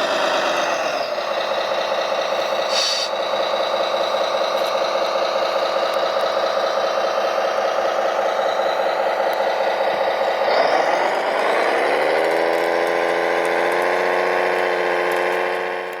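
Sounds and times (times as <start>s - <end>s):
toy truck engine idling: 0.0s - 16.0s.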